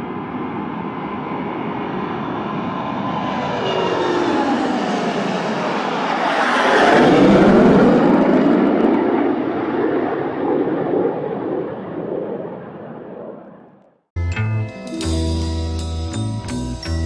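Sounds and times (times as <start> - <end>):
jet passing low overhead: 0.0 - 13.8.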